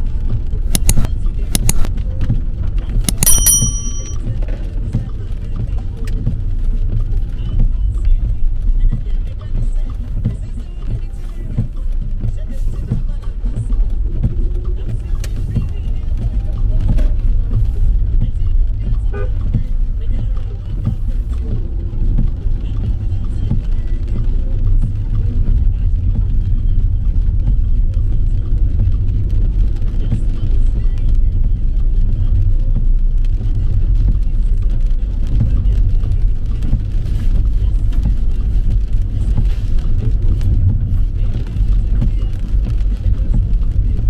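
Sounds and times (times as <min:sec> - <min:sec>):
car engine and road noise: 0:00.0 - 0:44.0.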